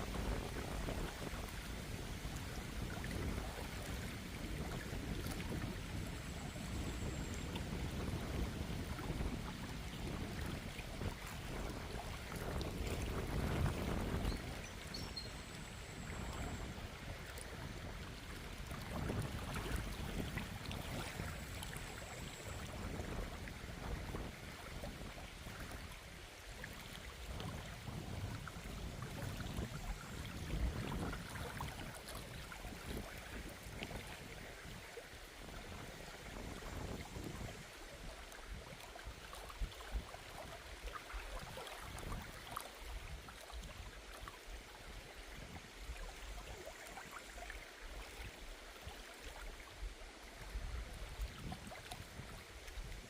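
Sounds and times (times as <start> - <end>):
wind rumble on microphone: 0.0 - 53.0.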